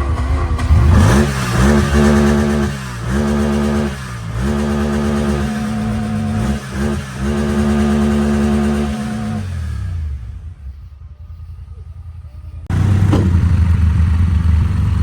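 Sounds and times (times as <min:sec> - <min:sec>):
engine revving: 0:00.0 - 0:10.8, 0:12.7 - 0:15.0.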